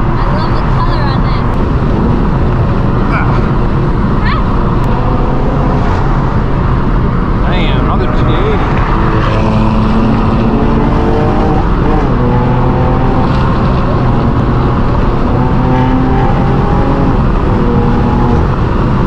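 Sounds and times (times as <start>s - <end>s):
car exhaust droning: 0.0s - 19.0s.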